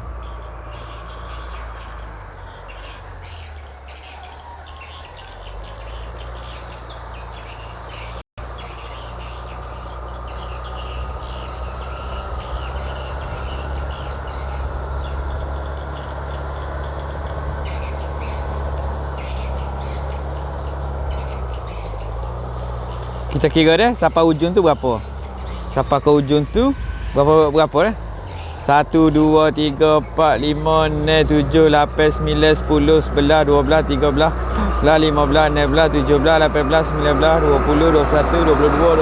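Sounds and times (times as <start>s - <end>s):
birds chirping: 0.0s - 39.0s
machine engine low hum: 0.0s - 39.0s.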